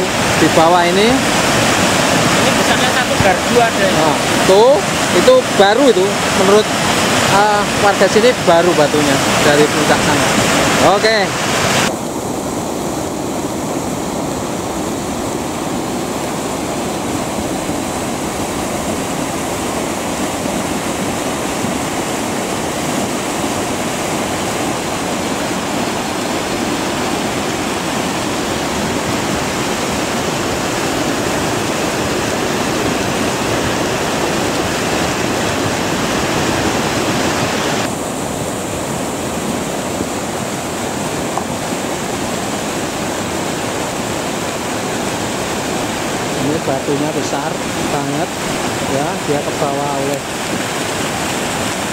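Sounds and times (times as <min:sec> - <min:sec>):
mudflow roaring down river channel: 0:00.0 - 0:51.9.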